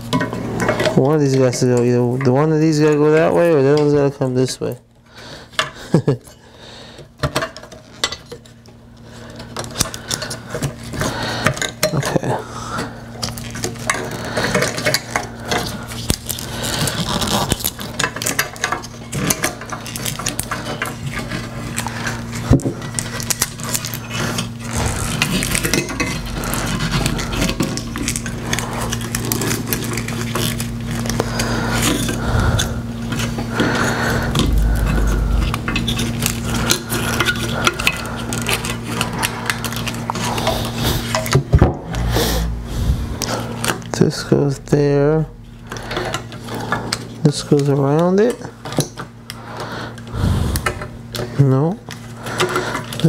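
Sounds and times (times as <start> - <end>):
steady low hum: 8.7 - 47.2, 48.6 - 53.0.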